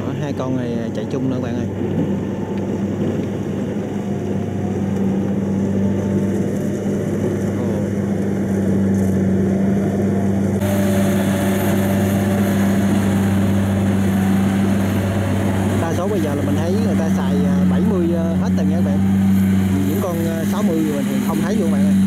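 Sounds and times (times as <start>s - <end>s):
harvester cutting rice: 0.0s - 22.0s
harvester engines droning: 0.0s - 22.0s.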